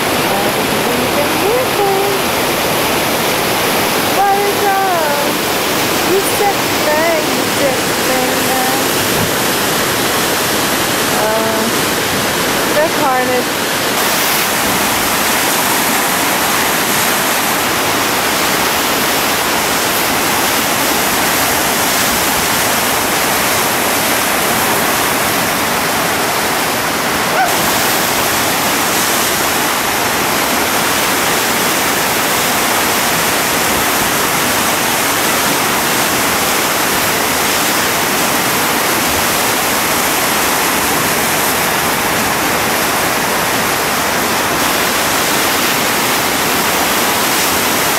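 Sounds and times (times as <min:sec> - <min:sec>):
whitewater rapids rushing: 0:00.0 - 0:47.9.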